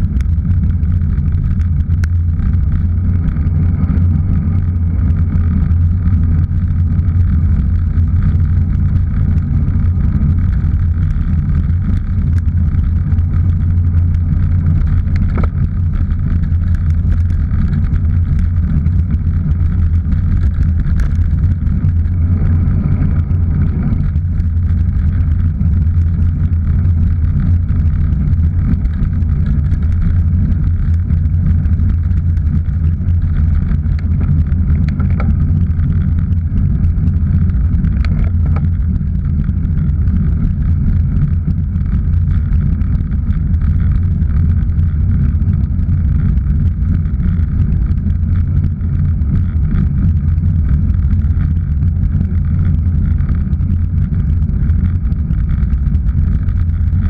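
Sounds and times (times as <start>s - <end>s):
road vibration rumble: 0.0s - 57.0s.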